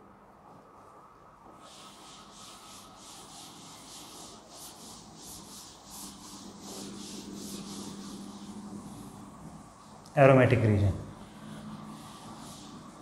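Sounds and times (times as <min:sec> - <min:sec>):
cloth rubbing chalkboard: 0:00.8 - 0:13.0.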